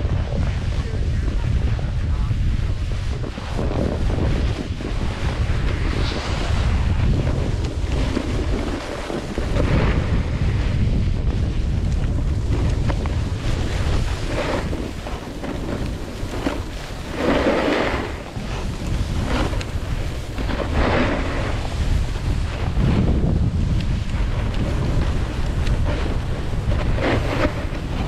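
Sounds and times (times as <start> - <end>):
snowboard scraping packed snow: 0.0 - 28.0
wind buffeting microphone: 0.0 - 28.0.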